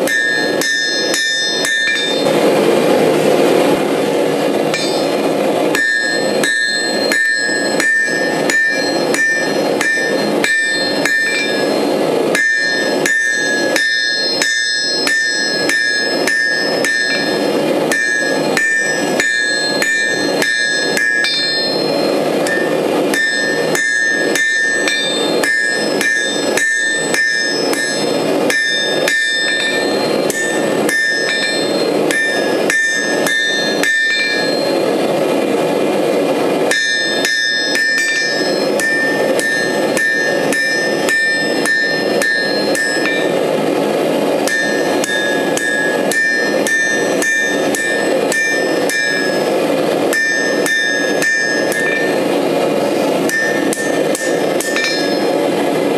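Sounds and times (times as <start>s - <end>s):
hammer ringing on anvil: 0.0s - 55.9s
steady rushing noise: 0.0s - 55.9s.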